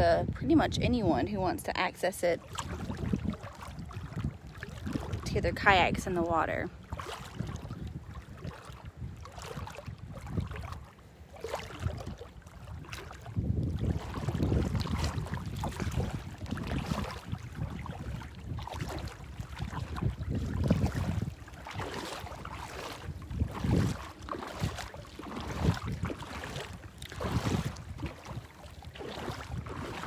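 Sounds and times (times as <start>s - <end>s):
water splashing and lapping: 0.0s - 30.0s
wind buffeting microphone: 0.0s - 30.0s.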